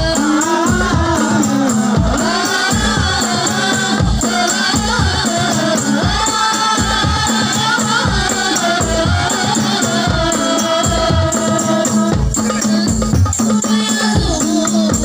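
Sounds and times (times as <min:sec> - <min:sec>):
frame drums beating: 0:00.0 - 0:15.0
group singing in unison: 0:00.0 - 0:15.0.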